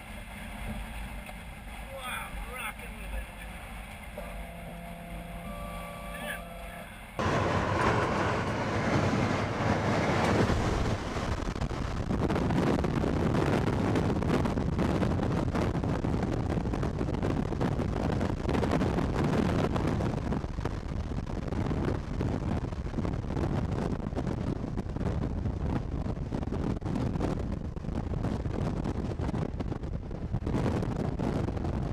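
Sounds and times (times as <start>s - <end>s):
strong wind buffeting microphone: 0.0s - 31.9s.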